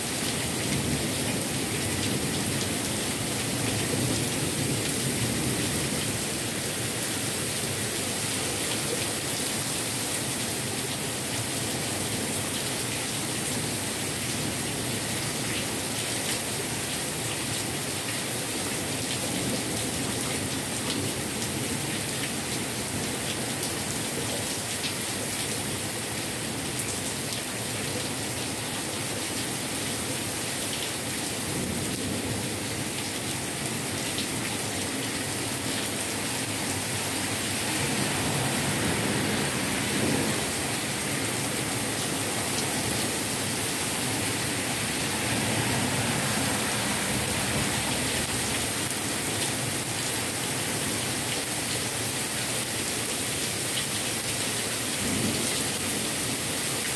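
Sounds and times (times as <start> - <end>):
heavy rain on leaves: 0.0 - 56.9.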